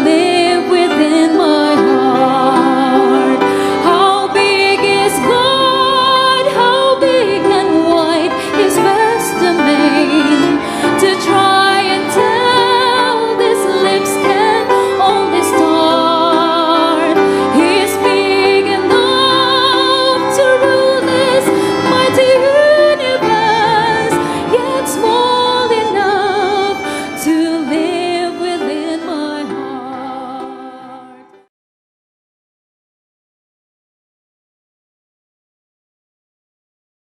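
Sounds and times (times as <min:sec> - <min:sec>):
woman singing with vibrato: 0:00.0 - 0:31.3
instrumental accompaniment: 0:00.0 - 0:31.5.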